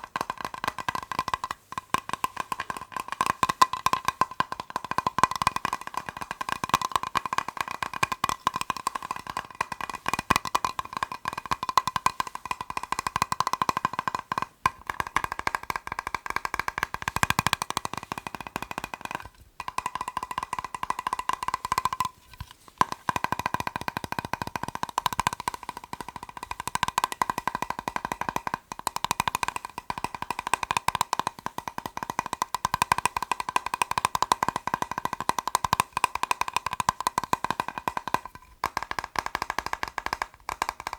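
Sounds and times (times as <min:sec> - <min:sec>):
fingertips tapping plastic box: 0:00.0 - 0:40.9.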